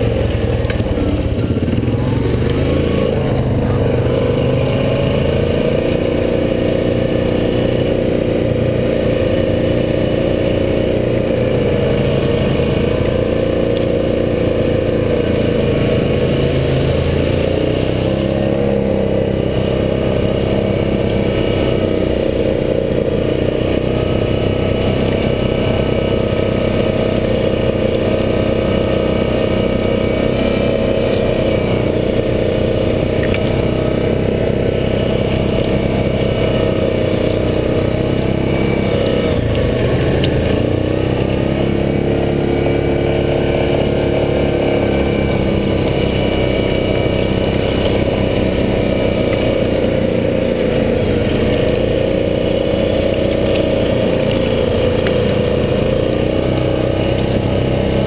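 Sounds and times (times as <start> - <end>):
atv engine running under load: 0.0 - 58.0.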